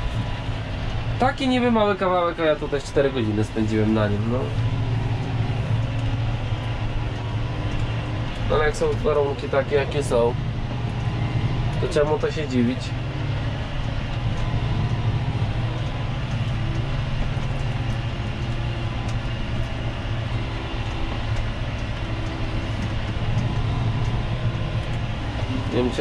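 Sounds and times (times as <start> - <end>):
tractor engine drone: 0.0 - 26.0.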